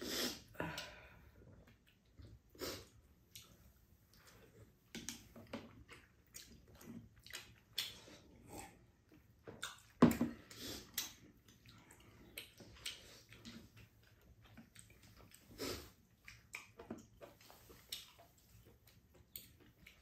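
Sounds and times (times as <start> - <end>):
wet slurping and chewing: 1.5 - 20.0.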